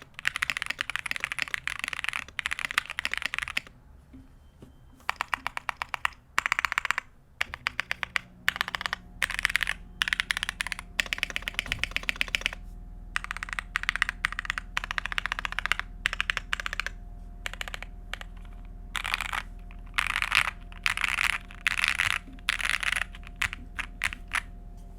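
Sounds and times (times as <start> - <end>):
mechanical keyboard typing: 0.0 - 3.7, 5.0 - 12.6, 13.2 - 24.5
faint steady hum: 0.0 - 24.9.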